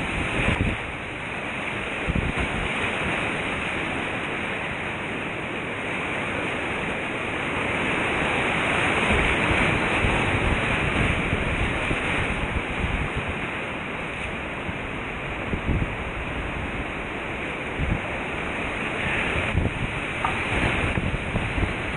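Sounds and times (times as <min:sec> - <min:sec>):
whitewater rapids rushing and splashing: 0:00.0 - 0:21.9.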